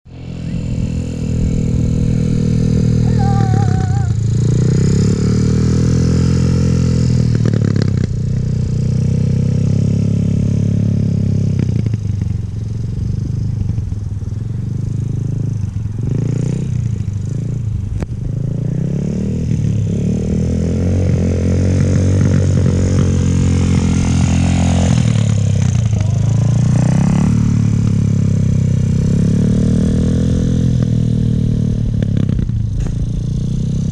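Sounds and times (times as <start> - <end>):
small motorcycle engine revving: 0.1 - 33.9.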